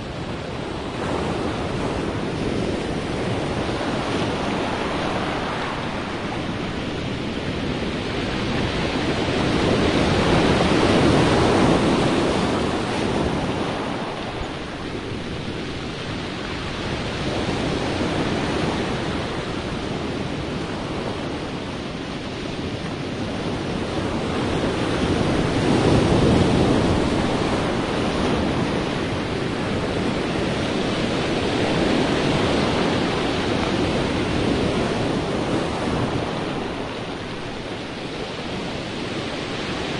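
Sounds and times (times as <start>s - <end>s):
sea waves rushing: 0.0s - 39.9s.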